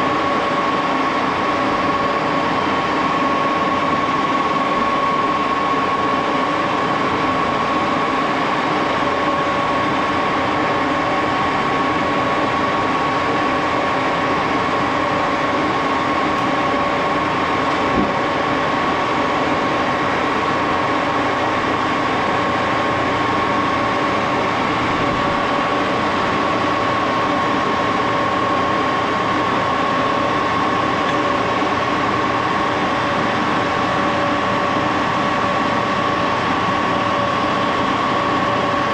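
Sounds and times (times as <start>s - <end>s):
lathe running with whine: 0.0s - 38.9s.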